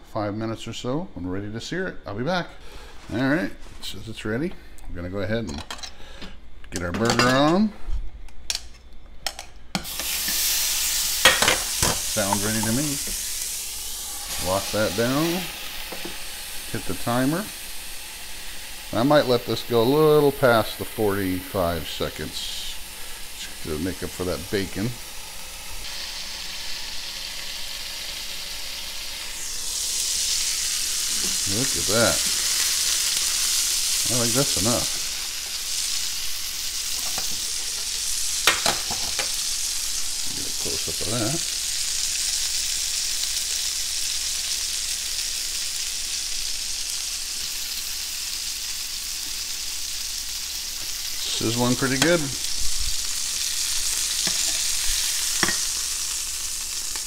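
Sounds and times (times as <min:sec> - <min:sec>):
burger patty sizzling on grill: 0:09.7 - 0:57.0.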